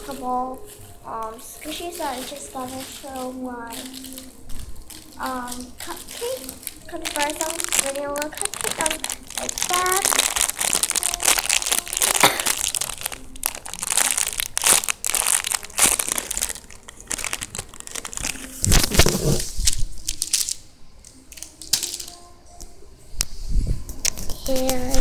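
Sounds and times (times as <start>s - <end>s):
plastic wrapping crinkling: 0.0s - 22.4s, 23.8s - 25.0s.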